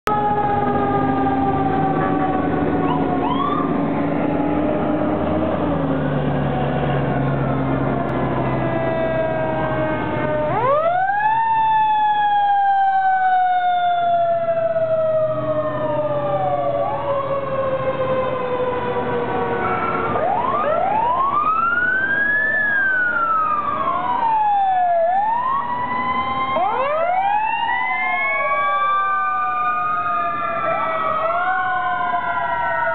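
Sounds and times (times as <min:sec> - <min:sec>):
fire engine sirens wailing: 0:00.0 - 0:32.9
fire trucks rumbling: 0:00.0 - 0:32.9.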